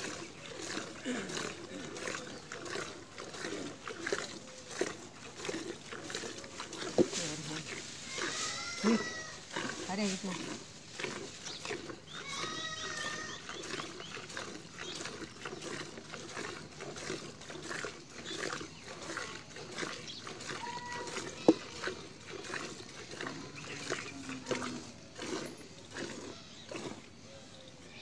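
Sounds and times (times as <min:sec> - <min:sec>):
milk squirting into bucket: 0:00.0 - 0:28.0.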